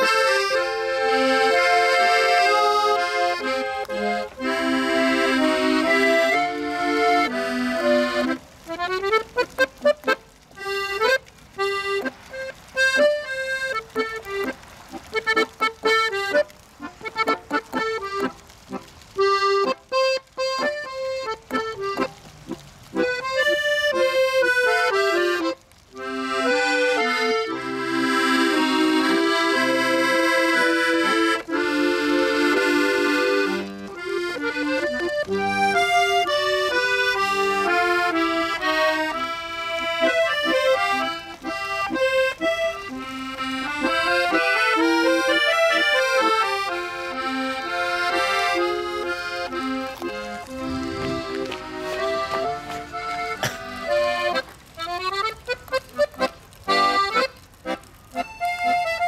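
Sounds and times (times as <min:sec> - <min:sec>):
accordion duo playing: 0:00.0 - 0:59.0.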